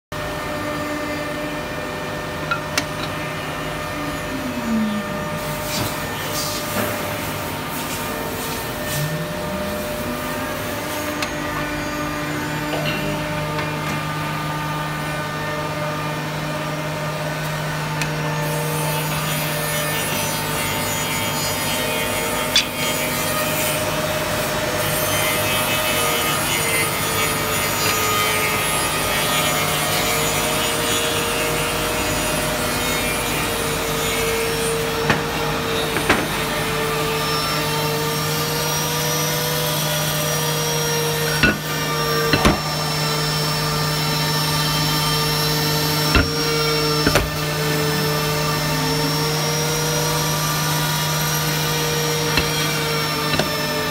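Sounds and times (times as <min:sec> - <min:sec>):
woodworking machine hum: 0:00.2 - 0:53.9.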